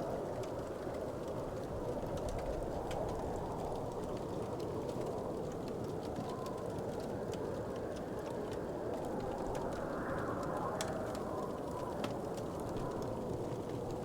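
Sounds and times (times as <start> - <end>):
fire crackles: 0.0 - 14.0.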